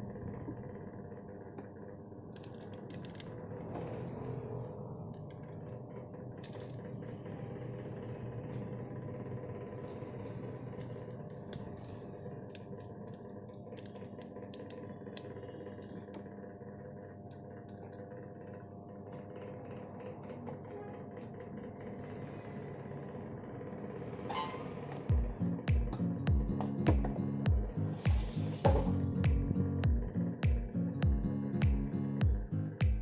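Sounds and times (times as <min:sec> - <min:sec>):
low workshop hum: 0:00.0 - 0:33.0.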